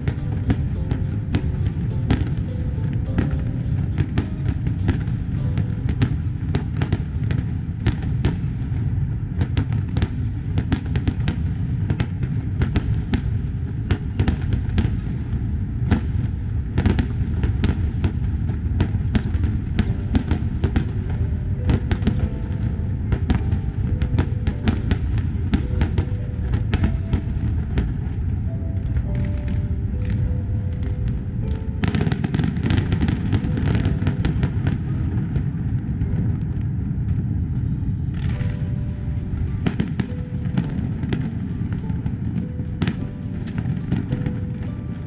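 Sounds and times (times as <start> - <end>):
fireworks bangs and cracks: 0.0 - 45.0
low rumble of distant bursts: 0.0 - 45.0.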